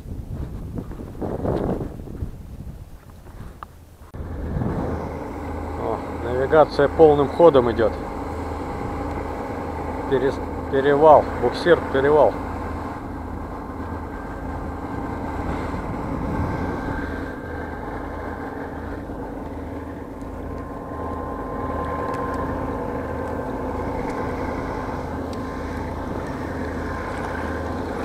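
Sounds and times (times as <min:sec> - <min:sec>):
boat diesel engine throbbing: 0:03.8 - 0:28.0.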